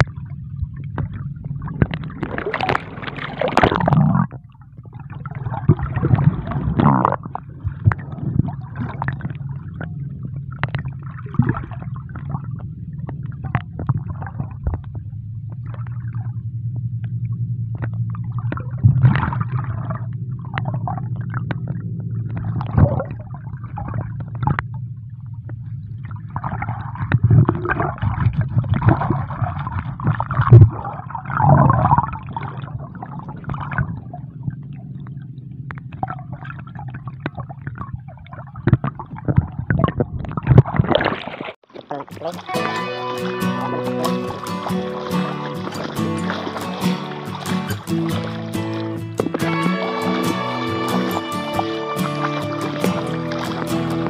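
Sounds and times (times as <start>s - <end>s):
muffled underwater rumble: 0.0s - 54.0s
water gurgling and sloshing: 0.0s - 54.0s.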